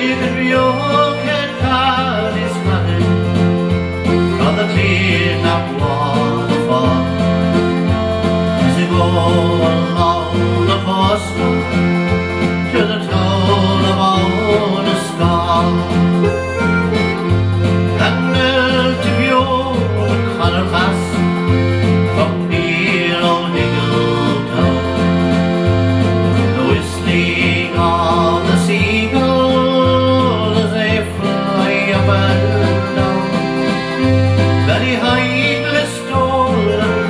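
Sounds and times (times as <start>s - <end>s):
country song with pulsing bass: 0.0s - 37.0s.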